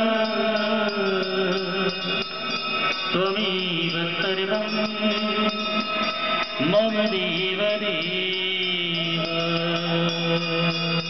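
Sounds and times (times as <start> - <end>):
high ticking beat: 0.0 - 11.0
mantra chanting over music: 0.0 - 11.0.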